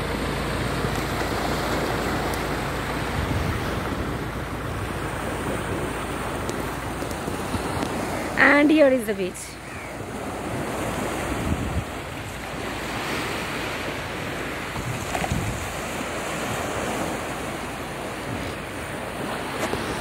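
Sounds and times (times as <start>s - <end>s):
small waves breaking on a beach: 0.0s - 20.0s
wind gusting on the microphone: 0.0s - 20.0s.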